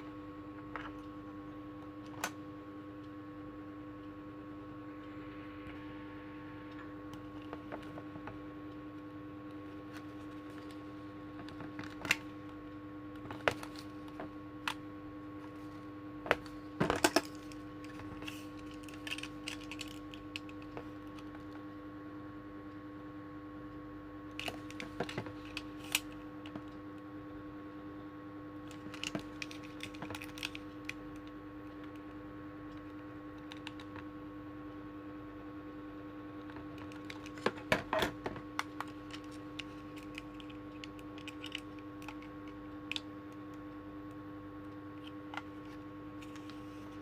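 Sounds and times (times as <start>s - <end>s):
steady electrical hum: 0.0s - 47.0s.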